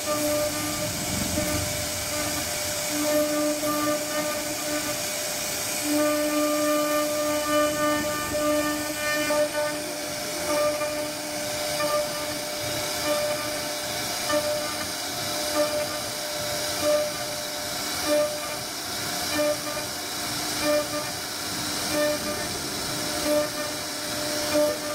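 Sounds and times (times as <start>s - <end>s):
bit cutting wood hiss: 0.0s - 24.9s
router spindle whine: 0.0s - 24.9s.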